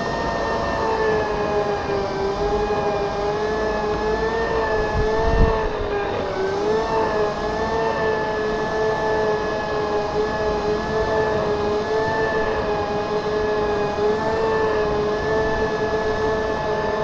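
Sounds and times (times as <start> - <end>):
electric motors whining: 0.0 - 17.0
rumble of wheels and wind: 0.0 - 17.0.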